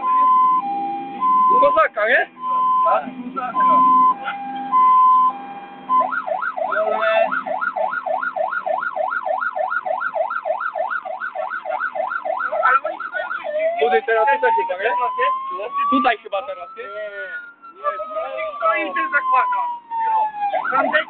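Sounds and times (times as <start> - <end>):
fire engine siren: 0.0 - 21.0.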